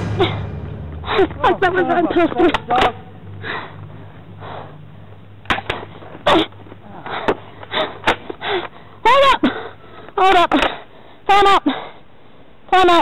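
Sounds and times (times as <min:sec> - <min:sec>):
low steady hum: 0:00.0 - 0:12.5.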